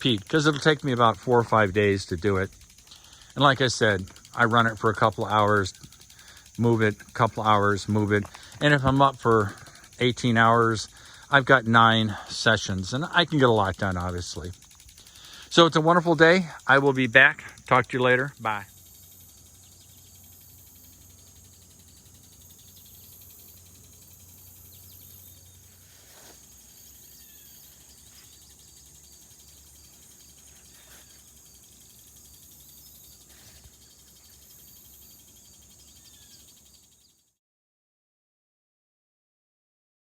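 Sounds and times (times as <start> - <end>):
crickets chorus: 0.0 - 37.3
faint chirps: 0.0 - 37.3.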